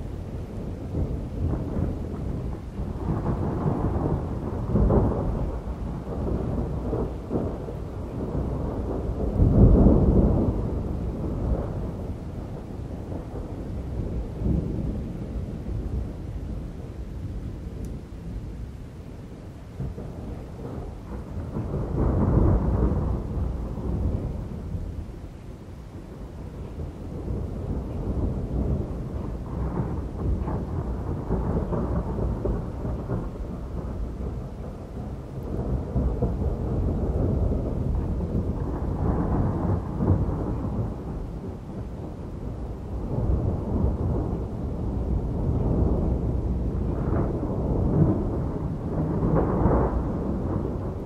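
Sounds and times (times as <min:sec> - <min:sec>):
rain falling: 0:00.0 - 0:51.0
thunder rumbling: 0:00.0 - 0:51.0.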